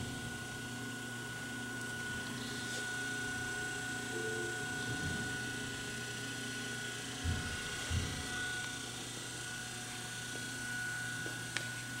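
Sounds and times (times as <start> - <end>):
grinder hum with high whine: 0.0 - 12.0.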